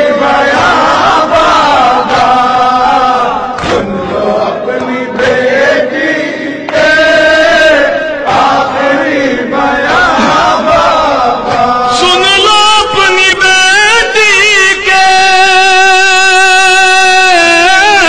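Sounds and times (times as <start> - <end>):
voices chanting a lament: 0.0 - 18.0.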